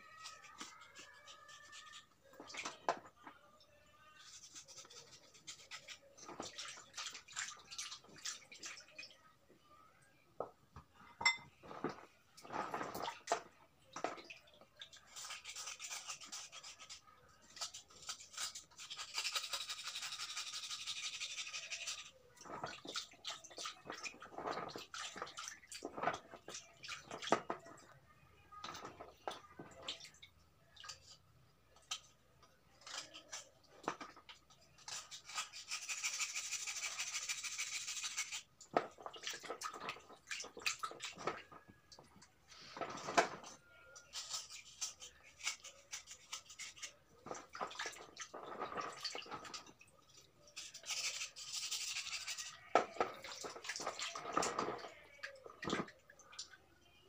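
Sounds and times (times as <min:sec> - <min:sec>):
water splashes and drips: 0:04.2 - 0:09.3, 0:11.6 - 0:28.0, 0:28.6 - 0:56.8.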